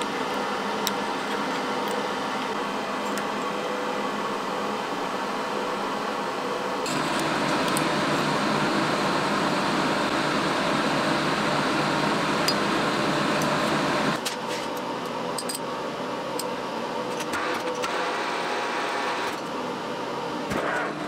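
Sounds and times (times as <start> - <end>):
machine hum and hiss: 0.0 - 21.0.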